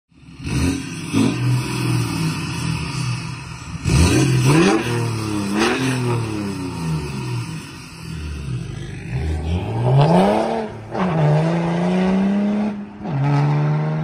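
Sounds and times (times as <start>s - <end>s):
diesel engine revving: 0.2s - 14.0s.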